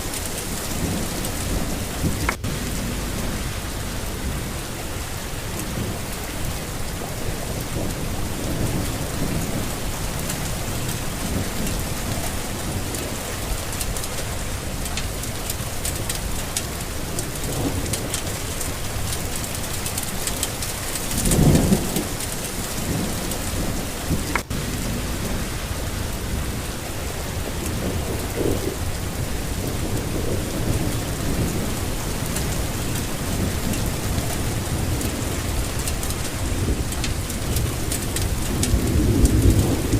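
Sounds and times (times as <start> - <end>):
steady rain falling: 0.0 - 39.9
thunder rumble: 0.0 - 39.9.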